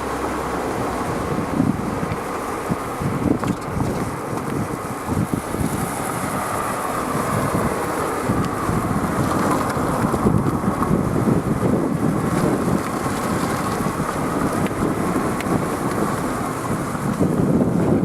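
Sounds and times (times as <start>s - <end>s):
sea surf on rocky shore: 0.0s - 18.0s
strong wind buffeting microphone: 0.0s - 18.0s.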